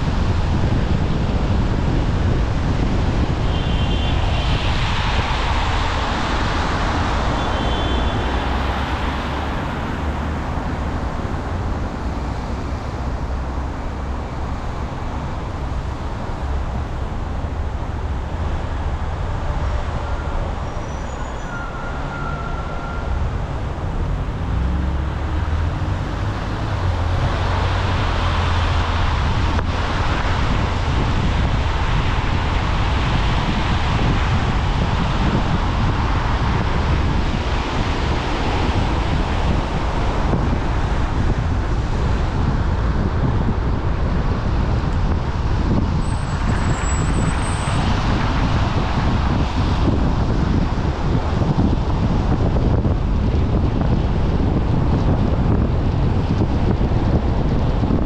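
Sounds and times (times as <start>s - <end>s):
tyre and road noise: 0.0s - 58.0s.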